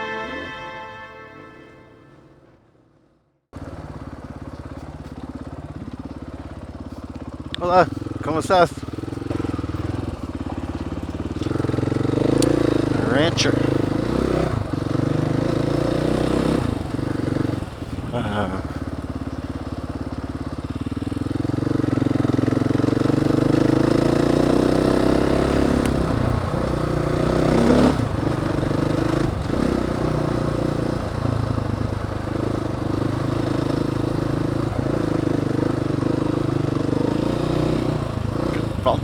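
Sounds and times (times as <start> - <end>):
dirt bike engine running: 3.6 - 39.0.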